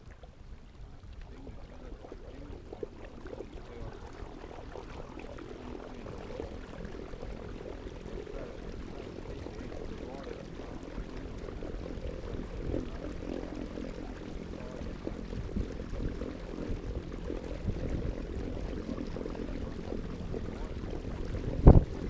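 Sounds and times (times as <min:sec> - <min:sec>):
water sloshing around kayak: 0:00.0 - 0:22.0.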